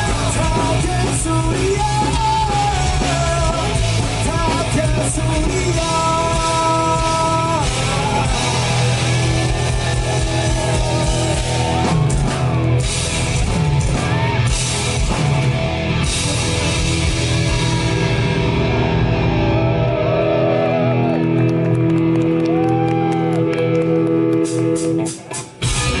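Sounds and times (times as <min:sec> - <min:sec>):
bass: 0:00.0 - 0:26.0
distorted electric guitar: 0:00.0 - 0:26.0
drums: 0:00.0 - 0:26.0
live rock band: 0:00.0 - 0:26.0.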